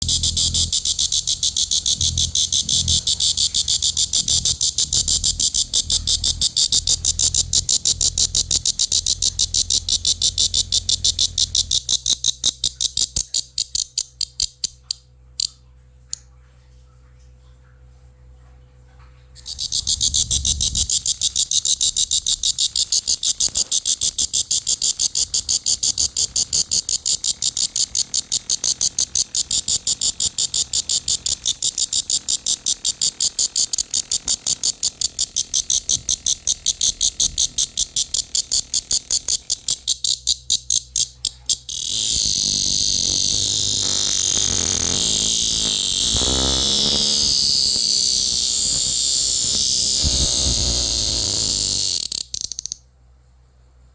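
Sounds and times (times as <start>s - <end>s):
cicada buzzing: 0.0s - 14.9s, 19.4s - 52.8s.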